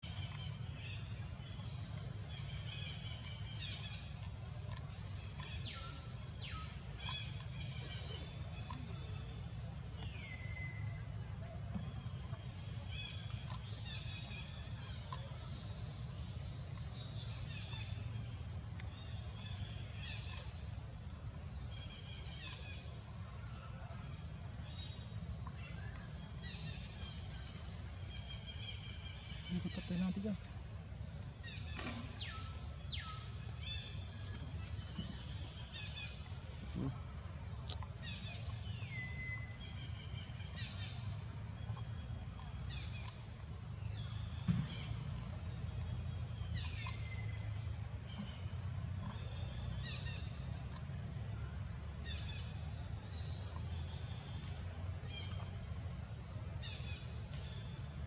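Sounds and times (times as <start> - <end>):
birds chirping: 0.0 - 58.0
steady low rumble: 0.0 - 58.0.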